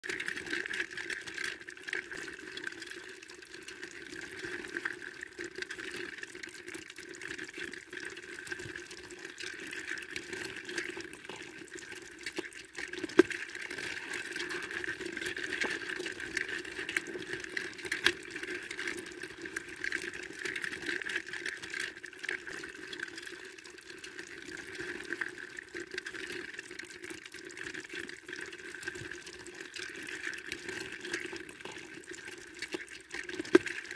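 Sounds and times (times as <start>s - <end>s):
crawfish crackling in bucket: 0.0s - 33.9s.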